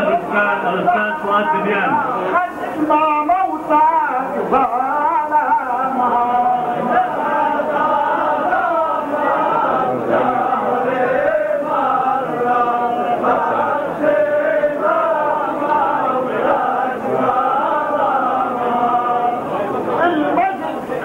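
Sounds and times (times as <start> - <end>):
men chanting together: 0.0 - 20.4.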